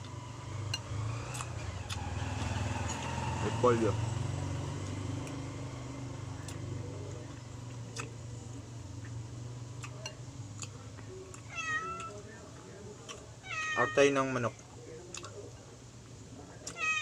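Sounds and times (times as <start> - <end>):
low mechanical hum: 0.0 - 13.8.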